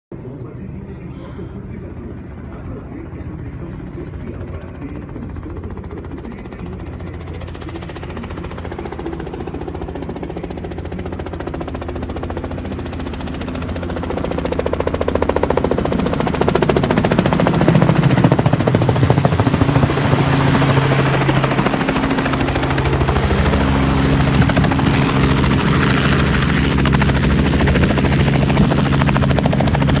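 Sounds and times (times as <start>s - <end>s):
helicopter rotor and engine: 0.1s - 30.0s.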